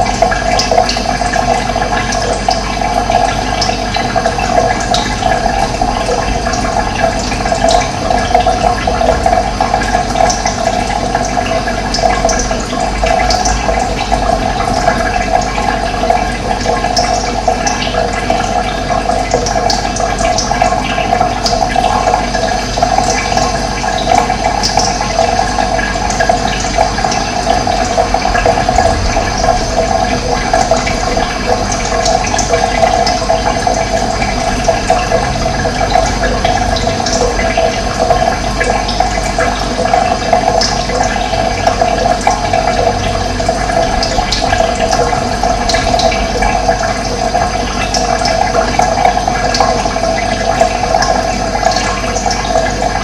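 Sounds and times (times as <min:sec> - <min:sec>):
running water flowing: 0:00.0 - 0:53.0.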